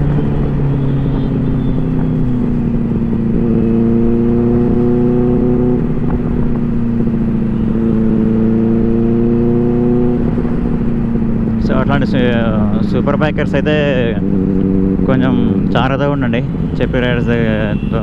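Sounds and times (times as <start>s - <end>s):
motorcycle engine cruising: 0.0s - 18.0s
wind and road rumble: 0.0s - 18.0s.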